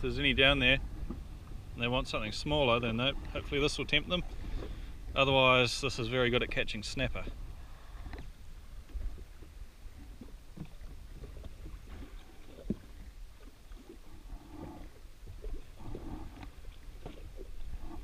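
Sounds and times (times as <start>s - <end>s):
water lapping against hull: 0.0s - 18.0s
wind rumble on microphone: 0.0s - 18.0s.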